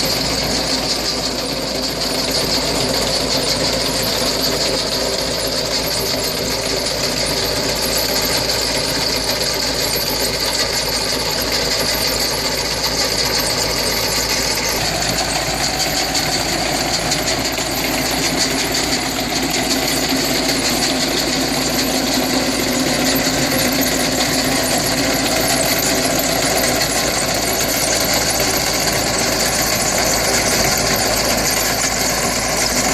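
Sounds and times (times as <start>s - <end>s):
tractor engine running under load: 0.0s - 32.9s.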